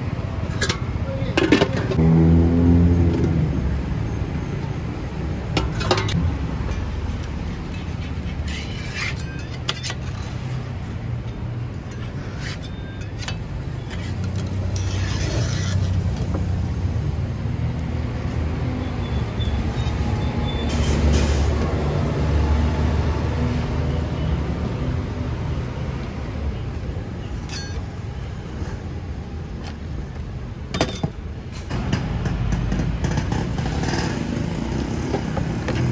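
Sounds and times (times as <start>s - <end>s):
road traffic rumble: 0.0s - 35.9s.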